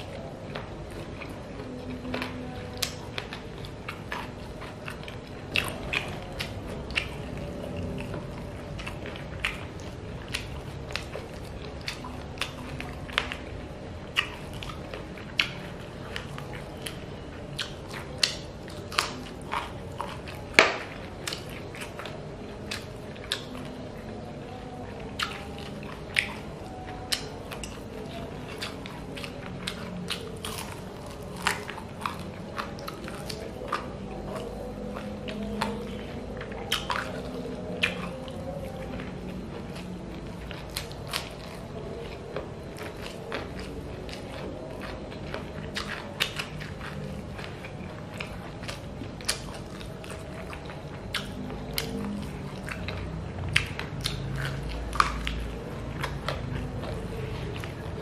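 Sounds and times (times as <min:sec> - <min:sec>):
chewing and biting: 0:00.0 - 0:58.0
low steady hum: 0:00.0 - 0:58.0.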